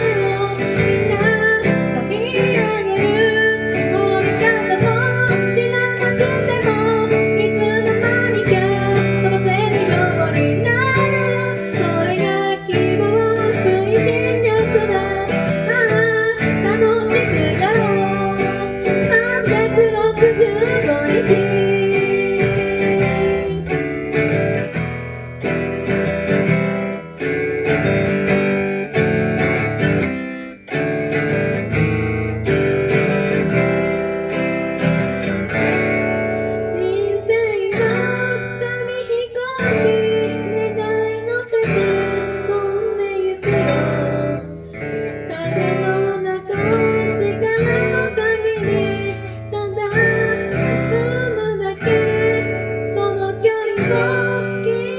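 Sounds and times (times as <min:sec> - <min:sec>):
person singing: 0:00.0 - 0:24.8, 0:31.2 - 0:54.9
strummed acoustic guitar: 0:00.0 - 0:54.9.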